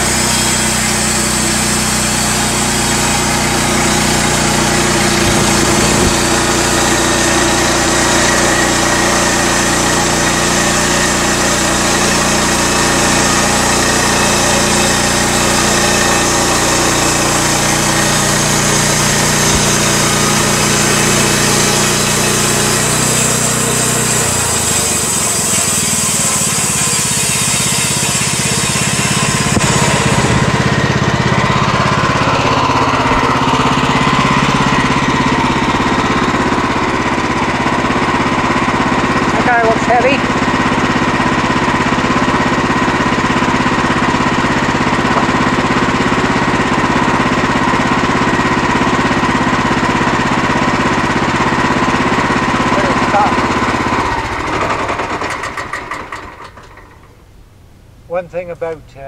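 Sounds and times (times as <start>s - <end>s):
sawmill engine running under load: 0.0s - 59.0s.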